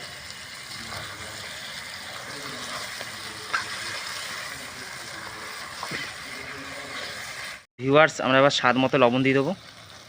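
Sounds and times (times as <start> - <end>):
chicken sizzling in a pot: 0.0 - 10.0.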